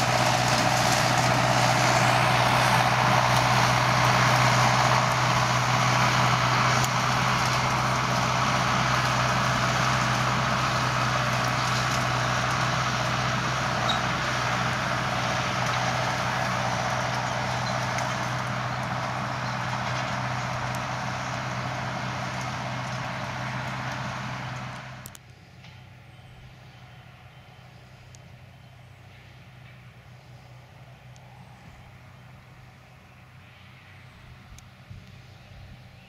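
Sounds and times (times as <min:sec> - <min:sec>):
diesel tractor engine running: 0:00.0 - 0:36.0
farm machinery noise: 0:00.0 - 0:36.0.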